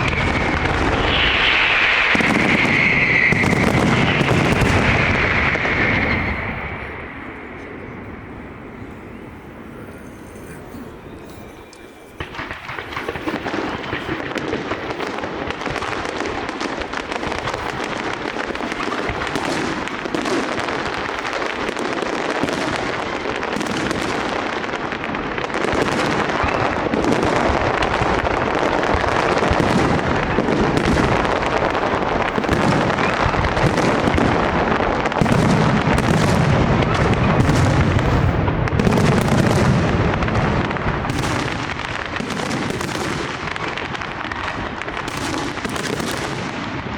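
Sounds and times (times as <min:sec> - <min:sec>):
deep fireworks booms: 0:00.0 - 0:10.0, 0:11.9 - 0:46.9
fireworks crackles and bangs: 0:00.0 - 0:46.9.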